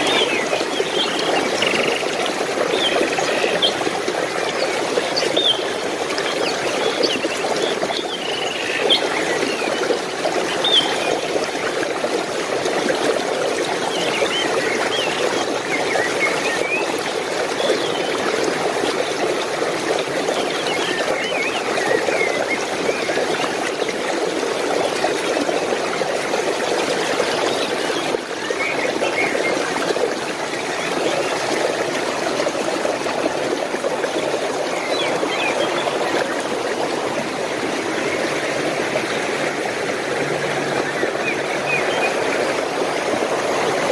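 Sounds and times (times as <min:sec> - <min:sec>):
water flowing and trickling: 0:00.0 - 0:43.9.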